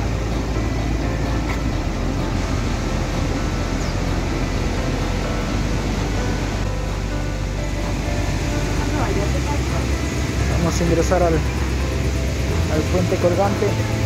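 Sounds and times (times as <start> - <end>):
fast river rushing: 0.0 - 14.0.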